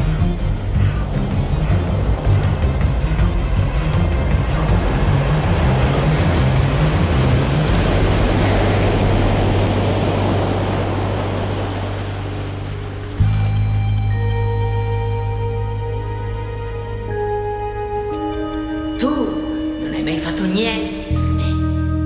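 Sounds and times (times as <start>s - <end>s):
sea surf rushing: 0.0s - 19.0s.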